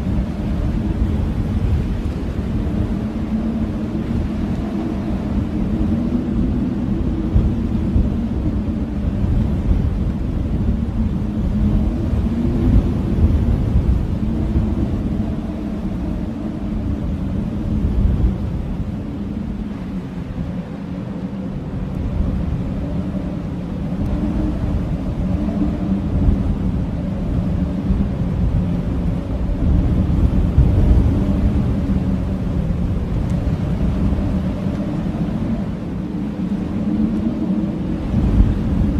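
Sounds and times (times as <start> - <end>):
blizzard wind howling: 0.0 - 38.9.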